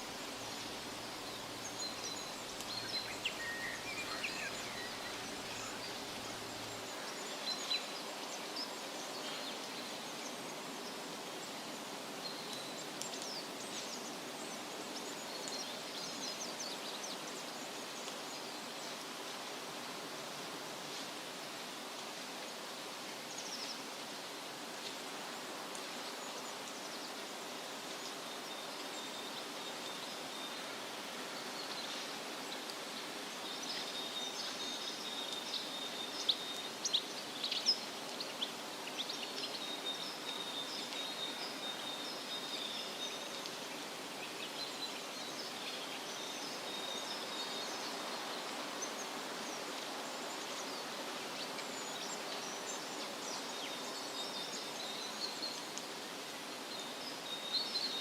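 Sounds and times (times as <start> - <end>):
wind rustling through trees: 0.0 - 58.0.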